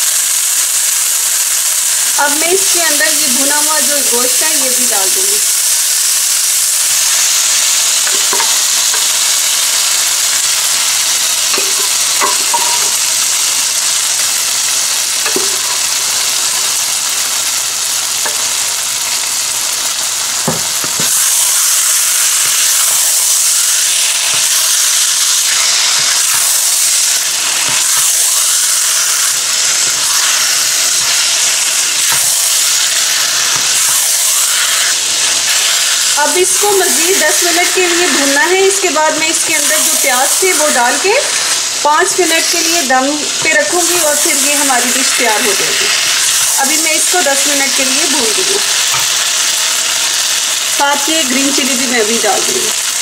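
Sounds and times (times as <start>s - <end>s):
meat sizzling in a wok: 0.0s - 53.0s.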